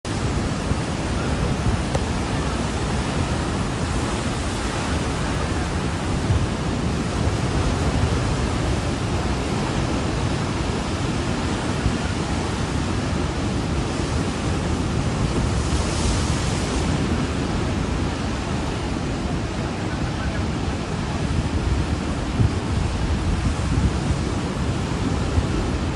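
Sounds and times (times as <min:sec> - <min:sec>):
wind: 0:00.0 - 0:25.9
surf: 0:00.1 - 0:25.9.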